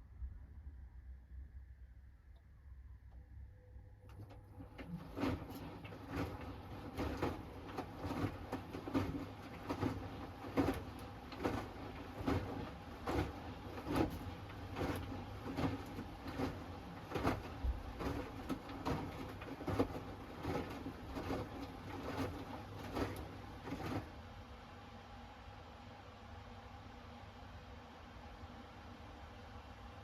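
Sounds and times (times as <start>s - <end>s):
washing machine hum: 1.4s - 30.0s.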